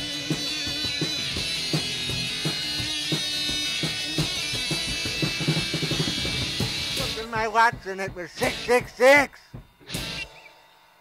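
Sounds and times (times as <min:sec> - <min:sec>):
sustained electric guitar: 0:00.0 - 0:10.6
rock drum kit: 0:00.0 - 0:10.8.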